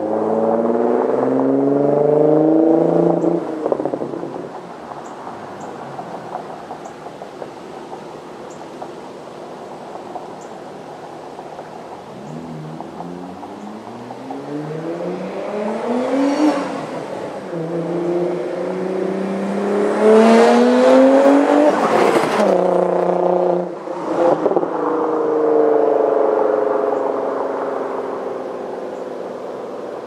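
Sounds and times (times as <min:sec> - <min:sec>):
car engine accelerating hard: 0:00.0 - 0:06.3, 0:12.0 - 0:30.0.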